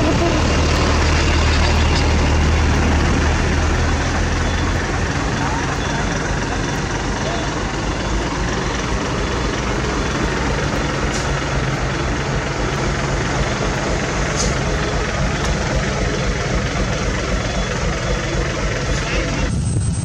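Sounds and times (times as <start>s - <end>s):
diesel engines droning: 0.0s - 20.0s.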